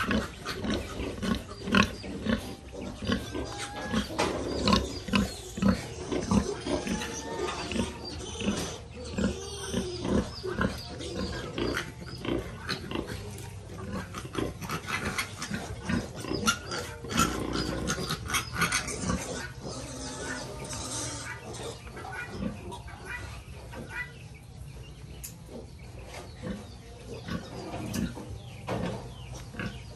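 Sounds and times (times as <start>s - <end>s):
piglets squealing: 0.0s - 24.2s
pigs grunting: 0.0s - 24.2s, 25.5s - 29.9s.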